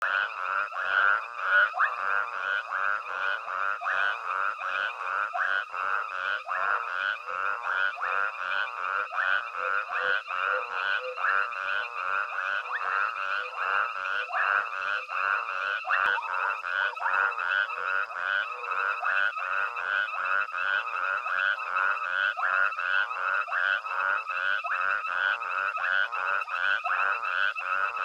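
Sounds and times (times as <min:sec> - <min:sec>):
frogs calling: 0:00.0 - 0:28.0.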